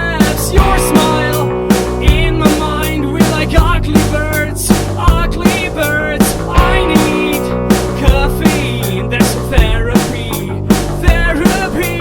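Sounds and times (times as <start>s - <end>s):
drums hitting: 0.0s - 12.0s
rock song with vocals: 0.0s - 12.0s.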